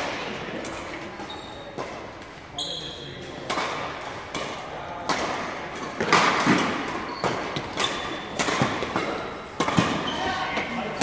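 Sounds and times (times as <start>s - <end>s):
rackets hitting shuttlecock: 0.0s - 2.4s, 3.1s - 11.0s.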